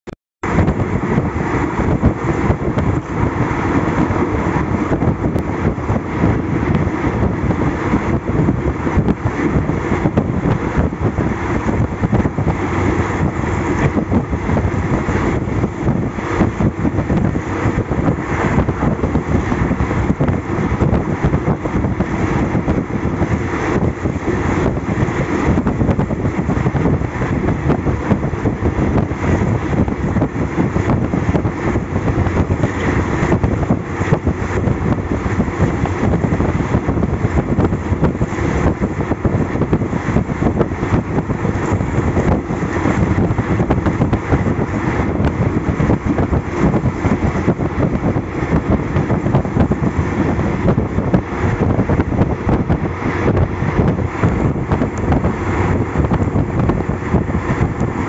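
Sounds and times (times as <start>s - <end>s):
train wheels rumbling on track: 0.4s - 58.0s.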